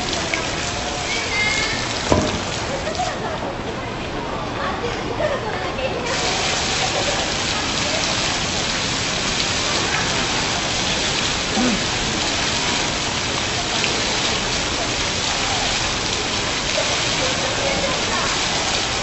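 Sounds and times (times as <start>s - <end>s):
water pattering down: 0.0s - 3.5s, 6.1s - 19.0s.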